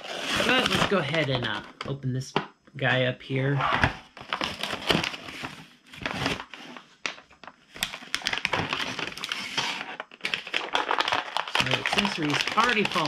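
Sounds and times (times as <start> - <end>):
packaging tearing and rustling: 0.0 - 1.7, 4.0 - 13.0.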